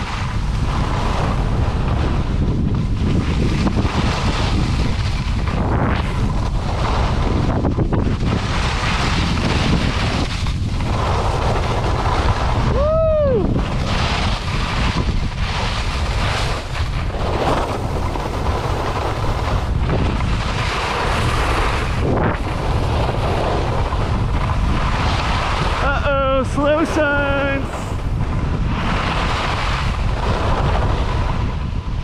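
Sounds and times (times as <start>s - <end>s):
skis scraping snow: 0.0s - 12.9s, 13.5s - 32.0s
wind buffeting microphone: 0.0s - 32.0s.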